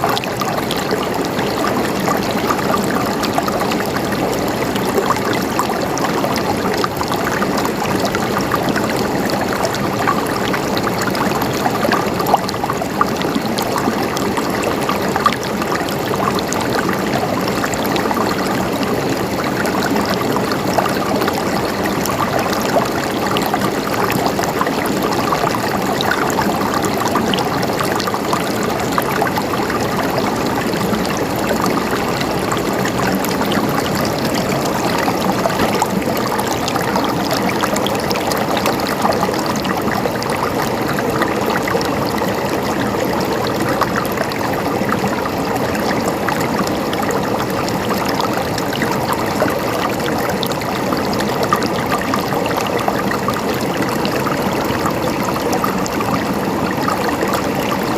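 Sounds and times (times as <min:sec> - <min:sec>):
water running over rocks: 0:00.0 - 0:57.9.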